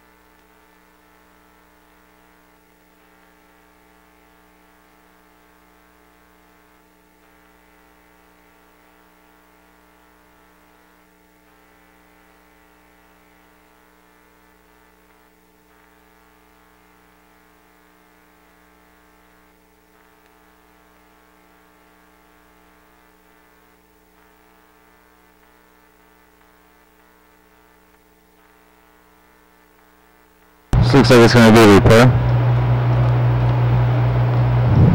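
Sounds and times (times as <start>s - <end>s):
faint electrical hum: 0.0s - 34.9s.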